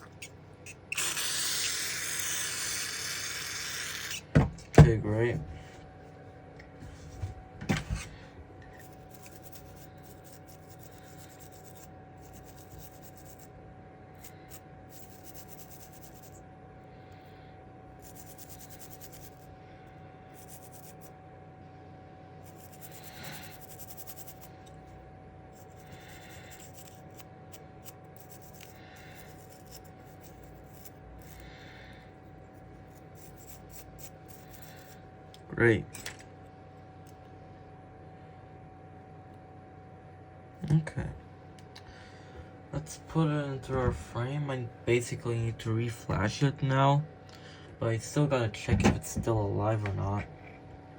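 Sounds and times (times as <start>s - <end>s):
electrical hum: 0.0s - 50.9s.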